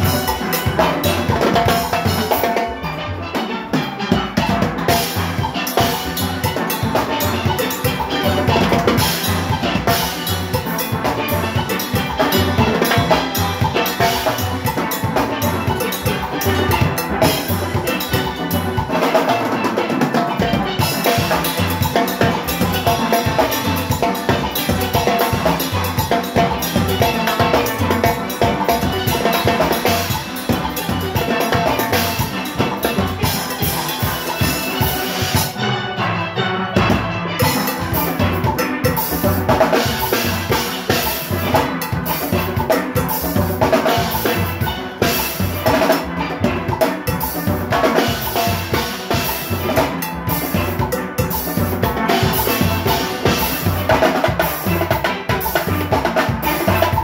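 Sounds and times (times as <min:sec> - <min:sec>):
drum kit with steady beat: 0:00.0 - 0:35.8, 0:36.8 - 0:57.0
steel pans playing: 0:00.0 - 0:57.0.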